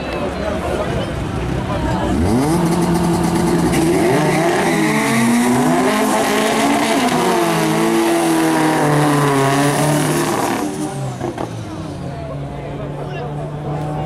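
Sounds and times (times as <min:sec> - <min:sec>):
drag racing car engines revving: 0:00.2 - 0:14.0.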